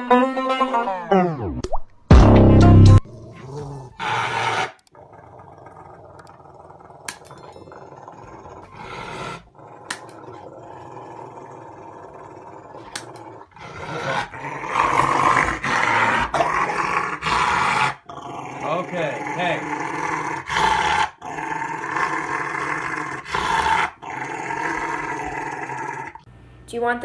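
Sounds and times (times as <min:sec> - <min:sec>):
dog growling: 0:03.0 - 0:26.3.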